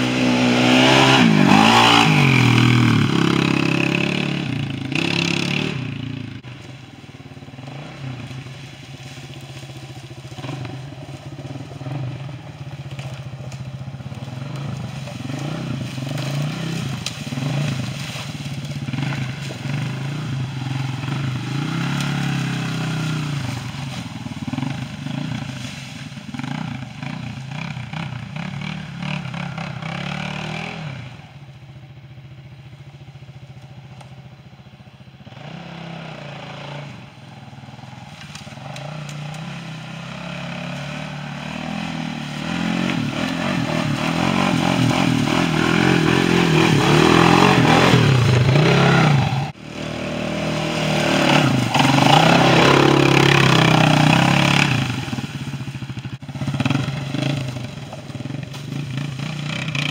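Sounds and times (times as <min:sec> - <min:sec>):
atv engine revving: 0:00.0 - 0:59.9
tyres crackling on dry leaves: 0:00.7 - 0:28.4, 0:37.0 - 0:59.9.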